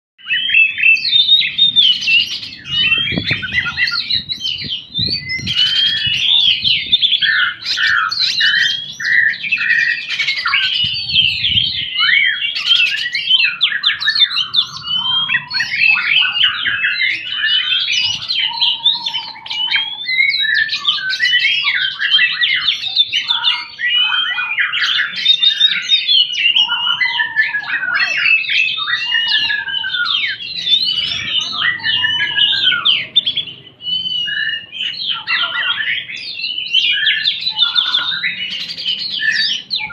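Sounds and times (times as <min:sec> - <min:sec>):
bird singing whistled notes: 0:00.2 - 0:39.9.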